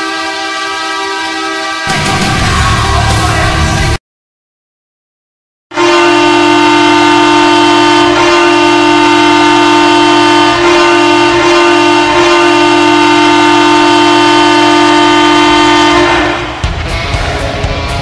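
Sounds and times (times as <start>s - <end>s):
goal horn blasting: 0.0s - 3.8s, 5.7s - 16.6s.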